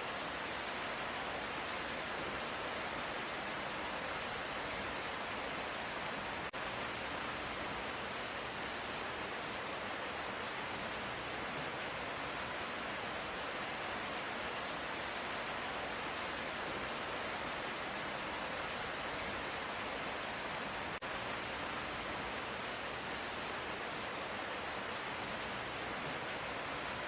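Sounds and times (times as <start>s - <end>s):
light rain hiss: 0.0s - 27.0s.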